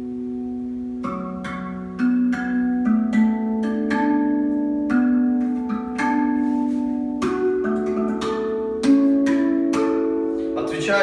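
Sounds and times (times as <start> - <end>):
steel tongue drum notes: 0.0 - 11.0.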